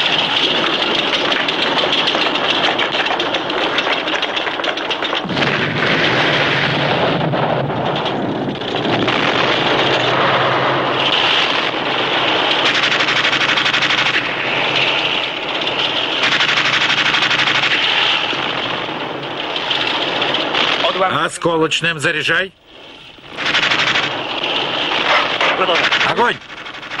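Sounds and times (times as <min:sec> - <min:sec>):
machine-gun fire: 0:00.0 - 0:21.5, 0:23.2 - 0:27.0
tank engine running: 0:00.0 - 0:27.0.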